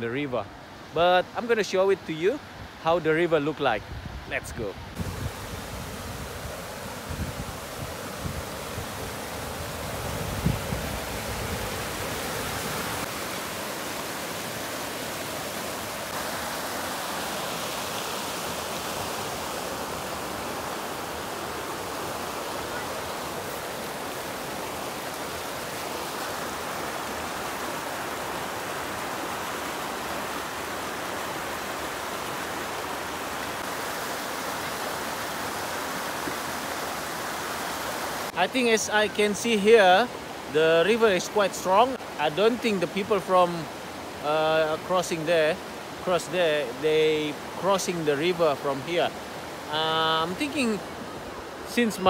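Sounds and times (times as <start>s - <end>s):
river rushing over rapids: 4.6s - 52.0s.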